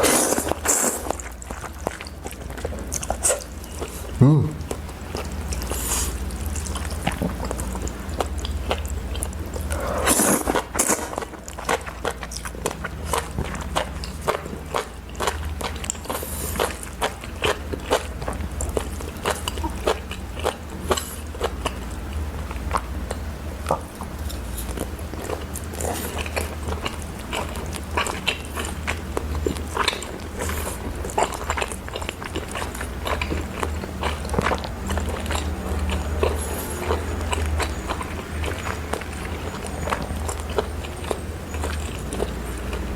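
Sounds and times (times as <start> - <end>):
person chewing and biting: 0.0 - 42.9
steady low hum: 0.0 - 42.9.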